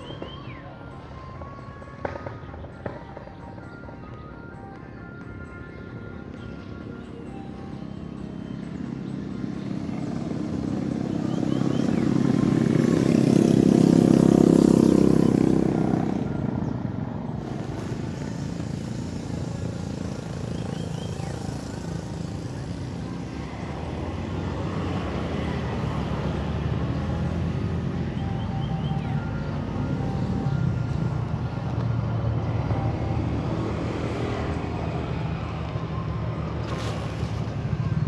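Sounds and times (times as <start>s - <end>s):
low steady engine hum: 0.0s - 38.0s
motor engine passing by: 6.4s - 38.0s.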